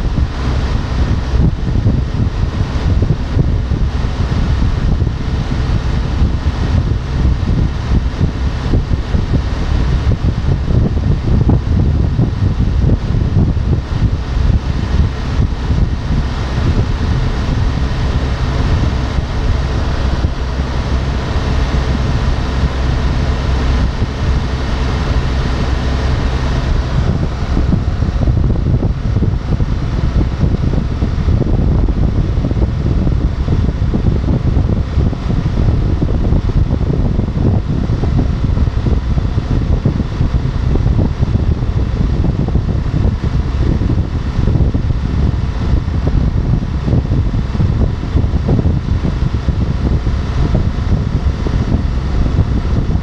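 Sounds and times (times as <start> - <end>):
motorcycle engine drone: 0.0 - 53.0
wind rushing over microphone: 0.0 - 53.0.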